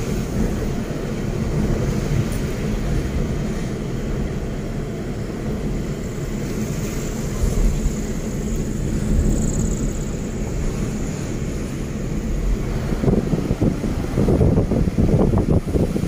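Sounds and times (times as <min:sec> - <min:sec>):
car road and engine rumble: 0:00.0 - 0:16.0
wind buffeting microphone: 0:00.0 - 0:16.0.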